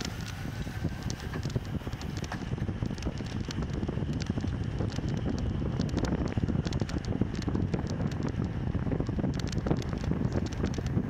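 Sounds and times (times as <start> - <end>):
low road rumble: 0.0 - 11.0
small clicks and rattles: 0.0 - 11.0
wind noise on microphone: 0.0 - 11.0.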